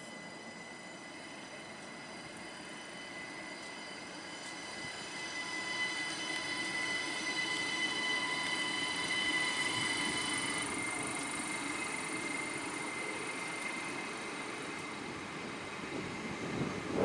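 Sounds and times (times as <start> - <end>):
high-pitched wheel squeal: 0.0 - 17.0
train rolling on rails: 0.0 - 17.0.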